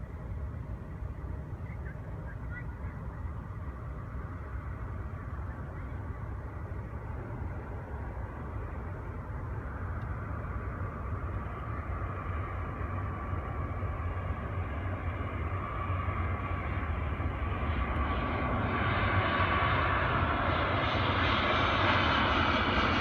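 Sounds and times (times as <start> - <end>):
jet engines whining: 0.5 - 23.0.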